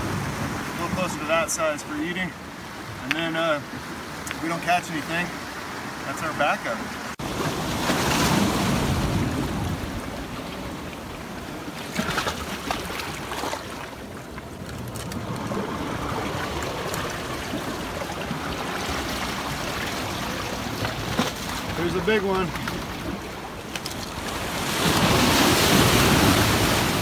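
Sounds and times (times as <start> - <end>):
ocean surf washing against rocks: 0.0 - 27.0.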